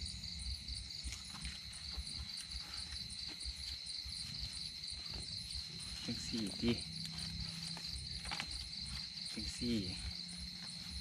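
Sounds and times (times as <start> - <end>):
night insects trilling: 0.0 - 11.0
rustling of leaves being folded: 1.0 - 11.0.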